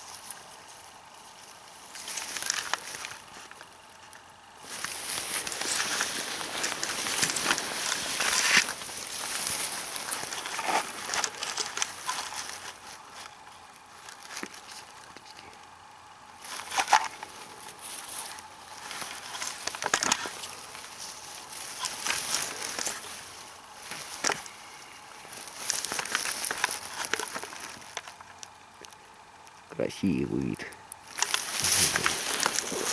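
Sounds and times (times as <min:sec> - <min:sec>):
stems snapping: 0:00.0 - 0:15.8, 0:16.4 - 0:29.7, 0:30.7 - 0:32.9
grass and plant stems rustling: 0:00.0 - 0:32.9.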